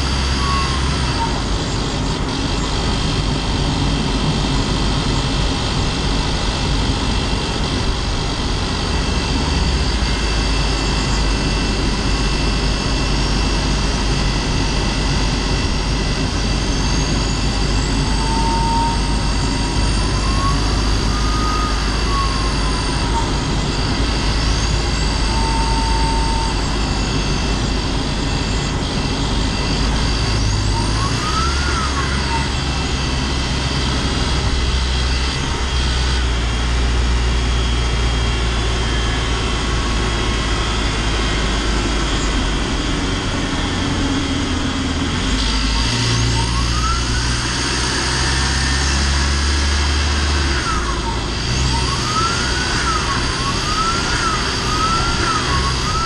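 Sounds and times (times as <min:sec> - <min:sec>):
turbo whistle rising and falling: 0:00.0 - 0:56.0
van engine droning: 0:00.0 - 0:56.0.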